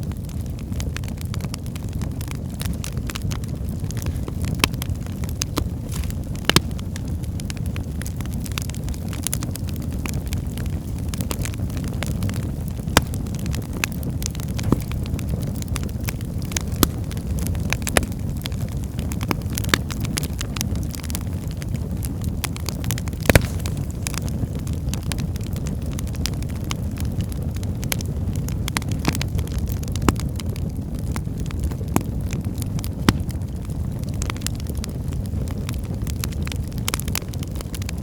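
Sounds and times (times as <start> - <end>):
wood fire burning: 0.0 - 38.0.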